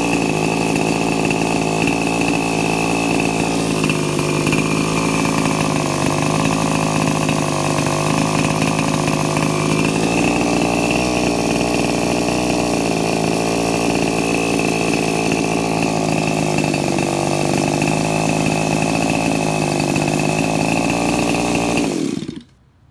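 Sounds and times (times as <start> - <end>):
small model helicopter engine buzzing: 0.0 - 22.4.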